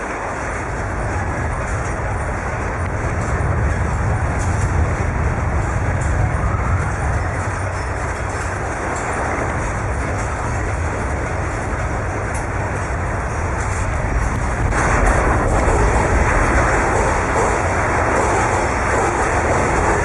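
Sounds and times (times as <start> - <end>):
deep earthquake rumbling: 0.0 - 20.0.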